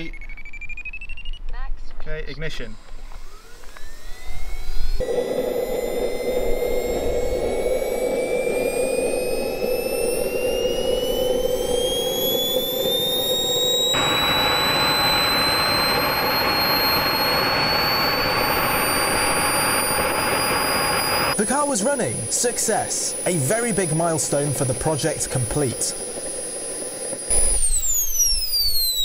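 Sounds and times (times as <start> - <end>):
jet turbine engine whine: 0.0 - 29.0.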